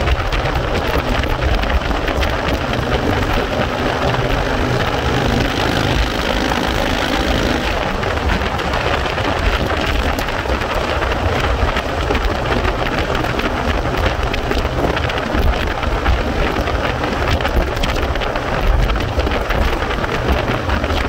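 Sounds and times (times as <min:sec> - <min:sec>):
engine hum: 0:00.0 - 0:21.0
wind buffeting microphone: 0:00.0 - 0:21.0.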